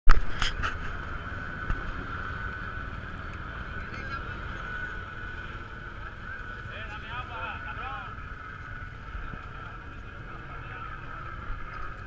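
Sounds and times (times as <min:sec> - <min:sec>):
low rumble: 0:00.1 - 0:12.0.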